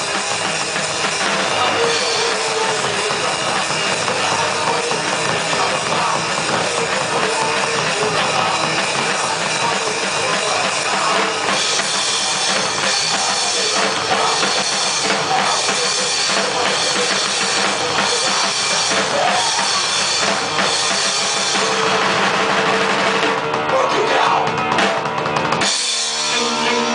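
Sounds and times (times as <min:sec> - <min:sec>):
drum kit: 0:00.0 - 0:26.9
heavy metal band playing: 0:00.0 - 0:26.9.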